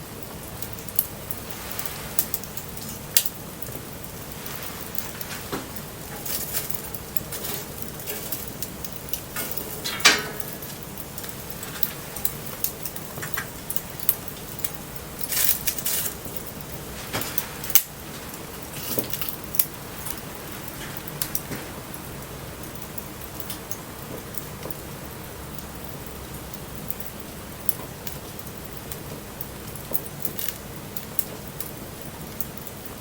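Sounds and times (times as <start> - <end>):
bonfire crackling and popping: 0.0 - 33.0
light rain hissing: 0.0 - 33.0.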